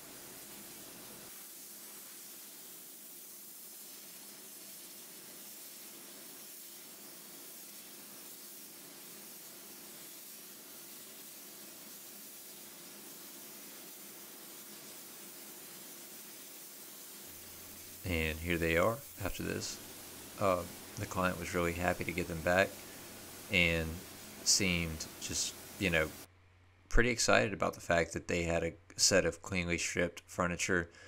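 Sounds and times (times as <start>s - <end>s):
compressed air spray hiss: 0.0s - 26.3s.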